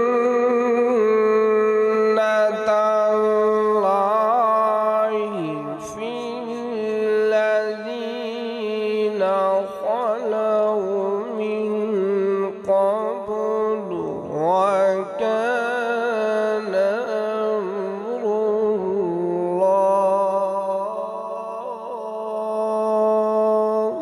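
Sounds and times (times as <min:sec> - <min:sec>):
man reciting melodic chant: 0:00.0 - 0:24.0.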